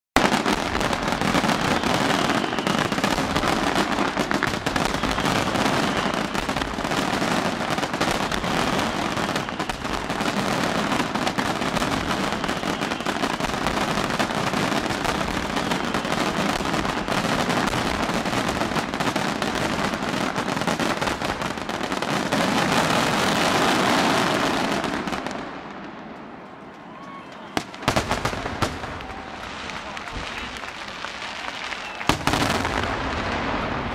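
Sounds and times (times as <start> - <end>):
fireworks bursting and crackling: 0.2 - 26.4, 27.3 - 33.9.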